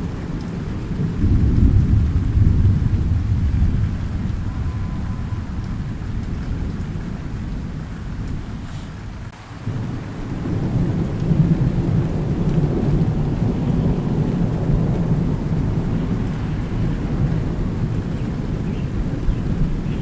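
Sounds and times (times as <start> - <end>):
steady rain hiss: 0.0 - 20.0
thunder rumbling: 0.0 - 20.0.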